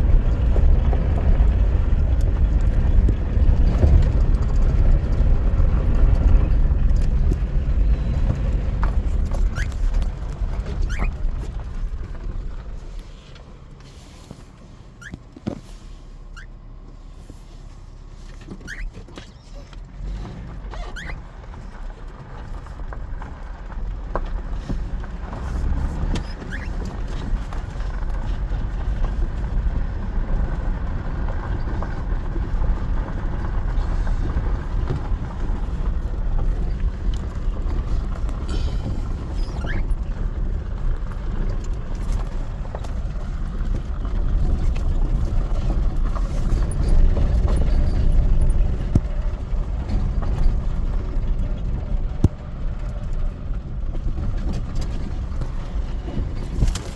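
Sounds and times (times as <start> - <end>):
vehicle engine and road rumble: 0.0 - 56.9.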